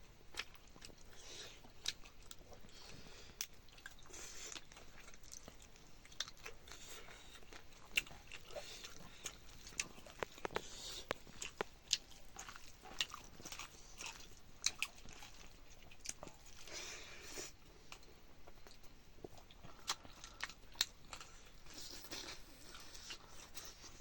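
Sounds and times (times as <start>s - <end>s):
person chewing and crunching food: 0.2s - 24.0s.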